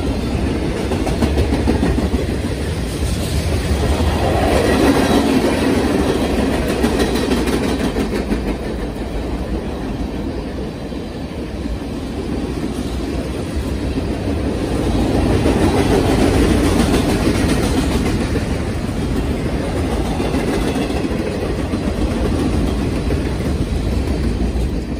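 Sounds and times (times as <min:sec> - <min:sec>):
freight train wheels rumbling: 0:00.0 - 0:24.9.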